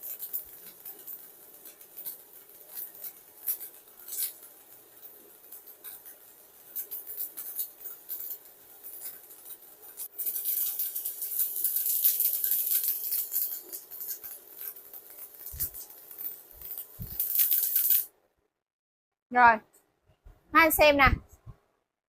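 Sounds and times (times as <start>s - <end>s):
welding arc crackling: 0.0s - 18.1s.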